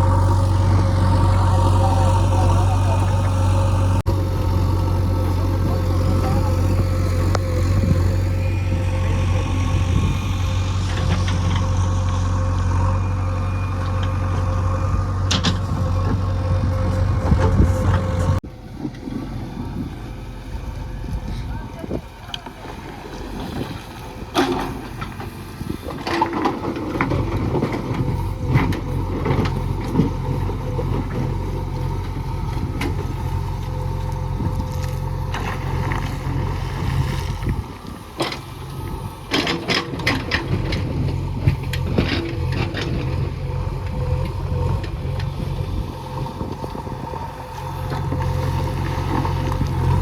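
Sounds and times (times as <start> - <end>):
heavy diesel machinery engine: 0.0 - 50.0.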